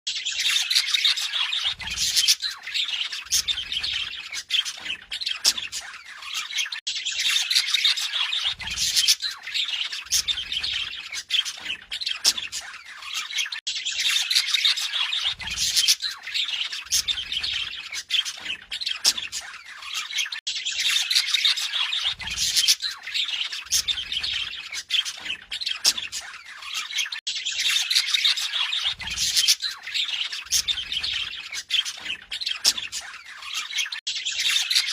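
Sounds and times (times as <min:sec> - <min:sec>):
budgerigars chattering: 0:00.4 - 0:34.9.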